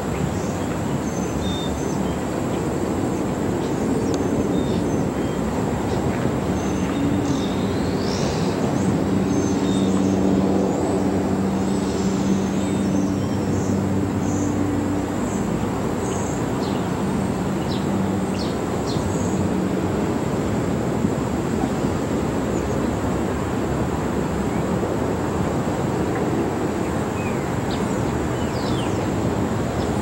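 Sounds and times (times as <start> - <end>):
diesel locomotive drone: 0.0 - 30.0
rumble of rolling freight cars: 0.0 - 30.0.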